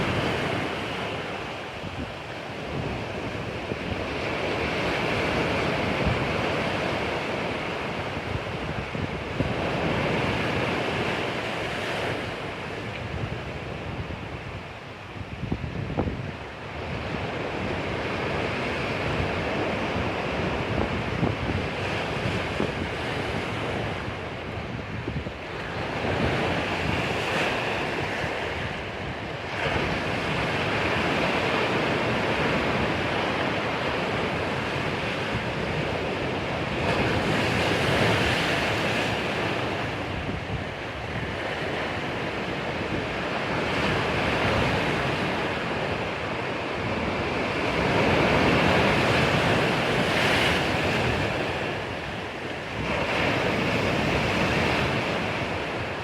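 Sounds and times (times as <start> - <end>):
sea waves breaking on shore: 0.0 - 56.0
wind buffeting microphone: 0.0 - 56.0.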